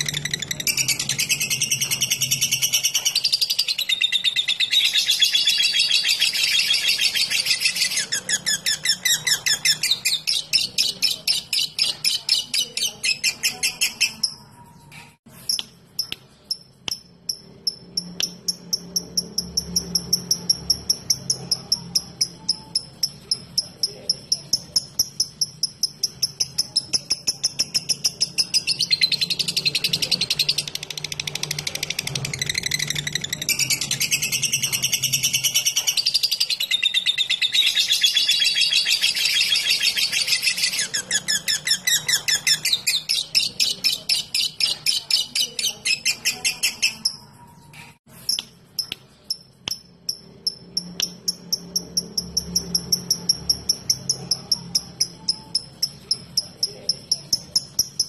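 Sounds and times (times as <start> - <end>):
bird chattering trill: 0.0 - 14.6, 15.4 - 58.0.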